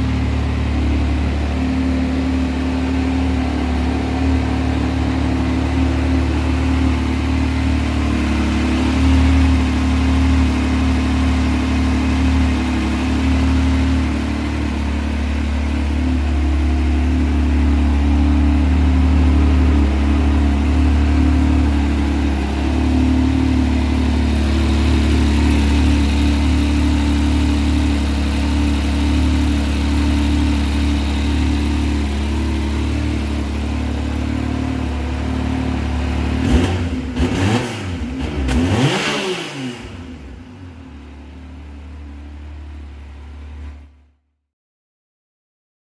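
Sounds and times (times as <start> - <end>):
engine idling: 0.0 - 38.9, 39.8 - 44.0.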